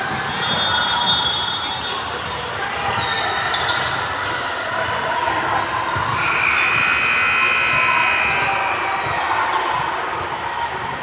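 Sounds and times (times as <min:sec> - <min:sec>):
hall chatter: 0:00.0 - 0:11.0.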